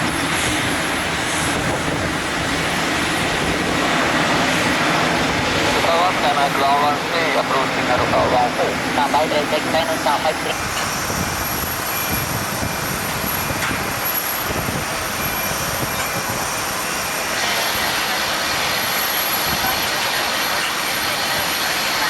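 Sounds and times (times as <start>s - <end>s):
jet engine rushing: 0.0s - 22.0s.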